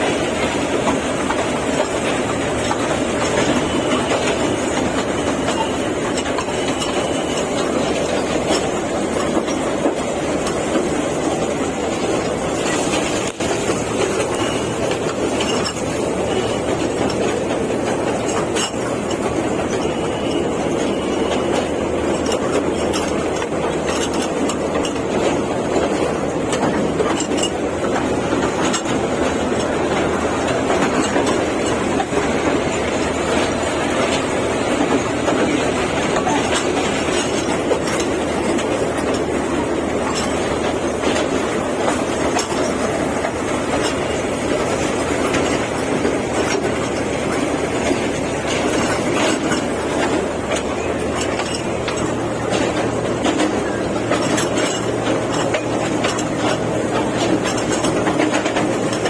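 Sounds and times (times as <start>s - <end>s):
toy train rumbling: 0.0s - 59.0s
wheels clicking on rails: 0.0s - 59.0s.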